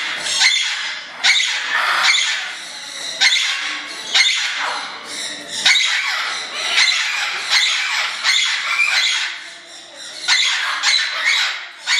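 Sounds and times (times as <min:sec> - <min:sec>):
parrots squawking: 0:00.0 - 0:11.9.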